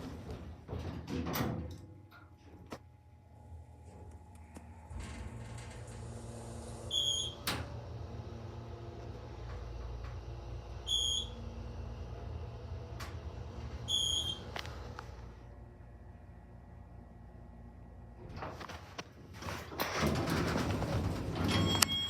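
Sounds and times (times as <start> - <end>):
elevator hum: 3.1 - 22.0.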